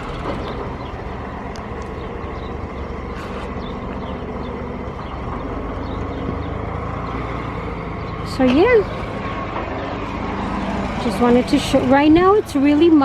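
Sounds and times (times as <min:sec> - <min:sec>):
farm machinery engine rumbling: 0:00.0 - 0:13.0.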